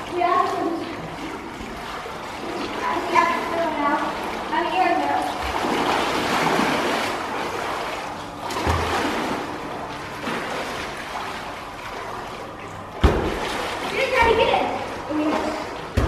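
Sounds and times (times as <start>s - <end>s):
pool water splashing: 0.0s - 16.0s.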